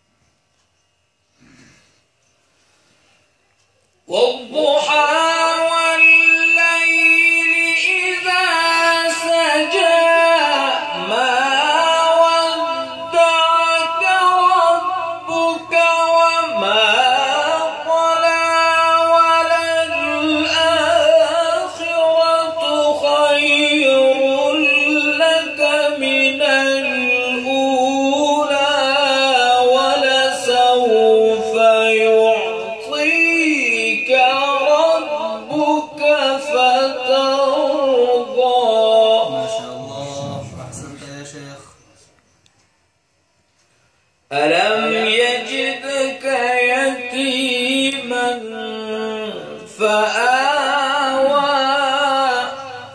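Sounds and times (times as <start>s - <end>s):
man chanting melodically: 4.0s - 42.1s, 44.3s - 52.9s.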